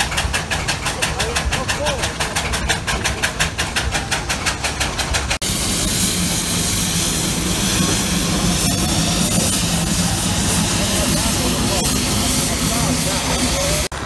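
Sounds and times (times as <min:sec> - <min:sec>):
steam engine exhaust beats: 0:00.0 - 0:14.0.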